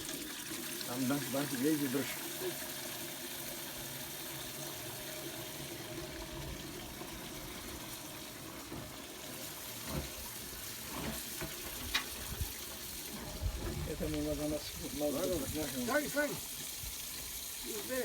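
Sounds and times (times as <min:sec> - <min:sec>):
milk pouring into a jug: 0:00.0 - 0:18.0.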